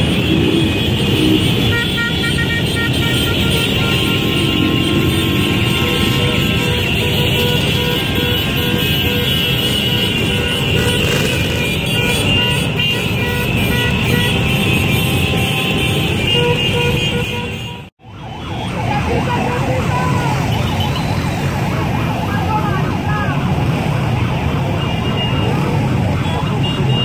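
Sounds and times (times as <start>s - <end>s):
motorcycle engines passing: 0.0s - 17.4s, 18.2s - 27.0s
sirens wailing: 0.0s - 27.0s.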